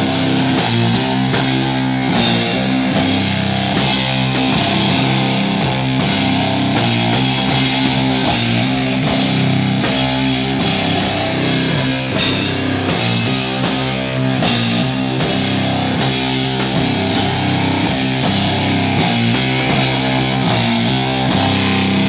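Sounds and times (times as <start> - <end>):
loud rock band playing: 0.0 - 22.0
cymbal crashes: 1.3 - 21.9.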